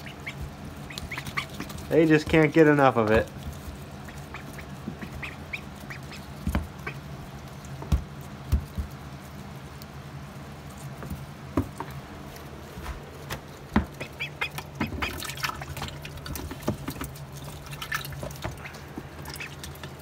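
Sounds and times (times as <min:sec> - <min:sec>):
duckling bills clicking in water: 0:00.0 - 0:10.0, 0:13.2 - 0:20.0
ducklings pecking: 0:00.0 - 0:20.0
steady low hum: 0:00.0 - 0:20.0.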